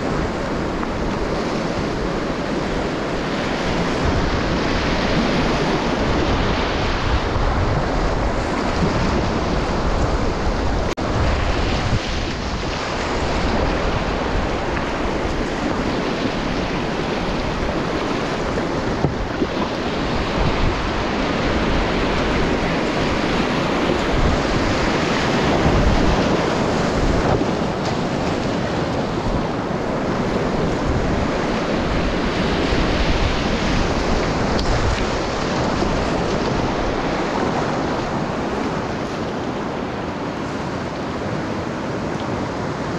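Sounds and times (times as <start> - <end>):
whitewater rushing: 0.0 - 42.9.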